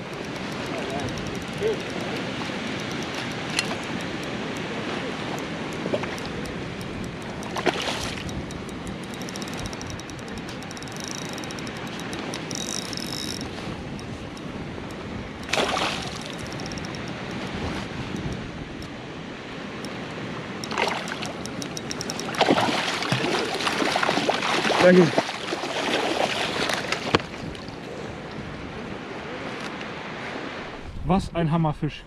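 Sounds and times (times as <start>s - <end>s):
water splashes: 0.0s - 9.8s, 10.4s - 27.7s
river water rushing: 0.0s - 27.3s
wind: 0.0s - 32.0s.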